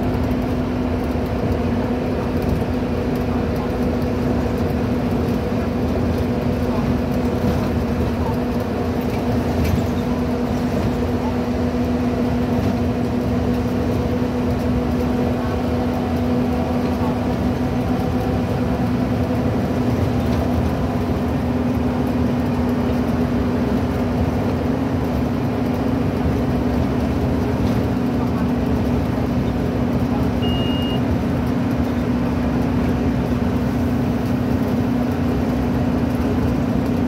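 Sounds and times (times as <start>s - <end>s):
bus diesel engine running: 0.0s - 37.0s
road noise: 0.0s - 37.0s.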